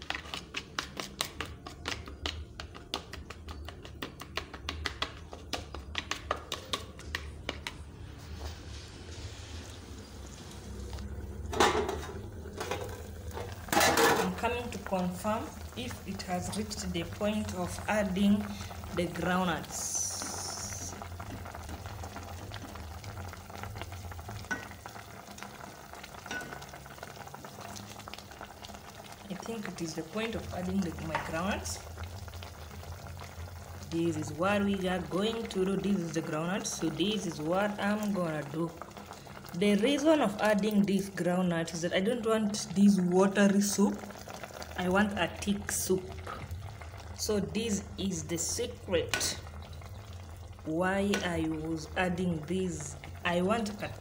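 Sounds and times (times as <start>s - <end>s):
stew simmering and crackling: 0.0s - 54.0s.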